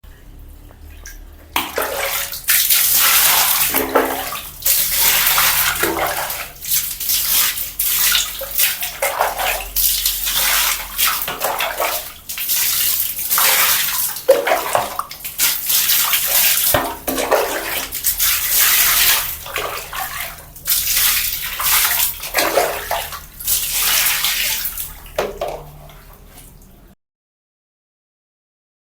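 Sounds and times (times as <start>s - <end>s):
water splashing from bucket: 0.2s - 26.9s.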